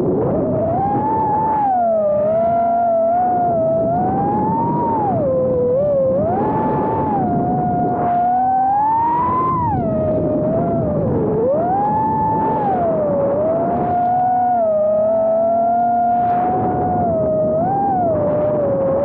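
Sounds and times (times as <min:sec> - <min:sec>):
quadcopter motors whining: 0:00.4 - 0:19.0.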